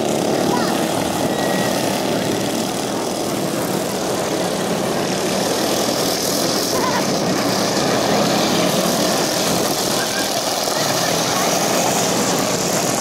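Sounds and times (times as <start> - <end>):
ride-on lawnmower engines droning: 0.0 - 13.0.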